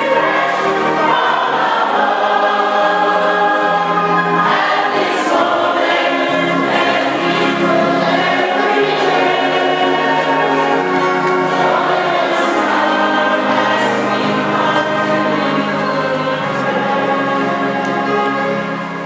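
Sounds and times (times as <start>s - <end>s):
congregation singing a hymn: 0.0s - 19.0s
low accompaniment: 0.0s - 19.0s.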